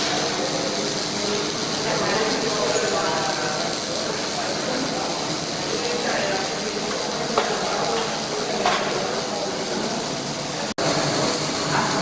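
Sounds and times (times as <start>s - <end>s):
welding hiss: 0.0s - 12.0s.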